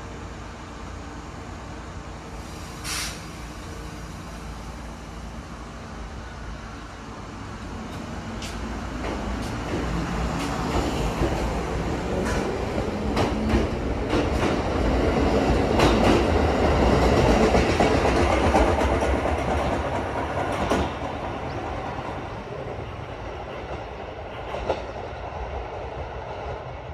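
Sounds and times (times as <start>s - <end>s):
electric train passing: 0.0s - 26.9s.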